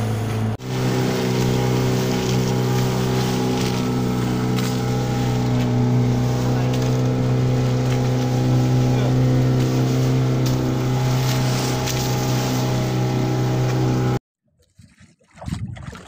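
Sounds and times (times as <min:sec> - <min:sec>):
boat engine humming: 0:00.0 - 0:14.2
water rushing along hull: 0:00.0 - 0:16.0.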